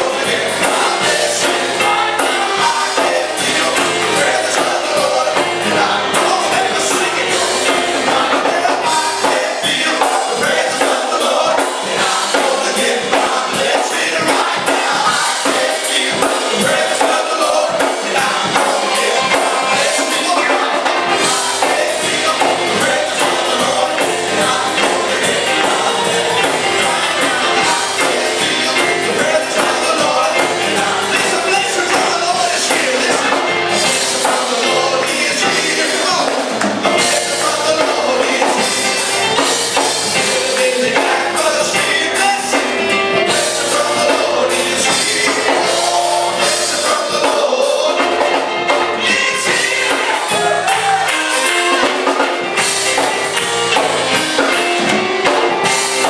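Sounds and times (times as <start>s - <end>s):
full band playing: 0.0s - 56.0s
gospel singing: 0.0s - 56.0s.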